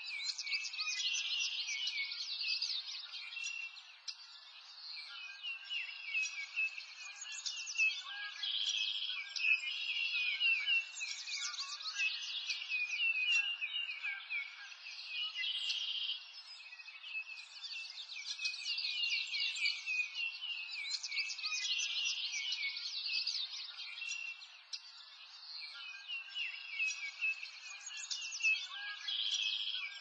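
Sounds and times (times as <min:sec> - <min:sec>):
birds chirping and twittering: 0:00.0 - 0:30.0.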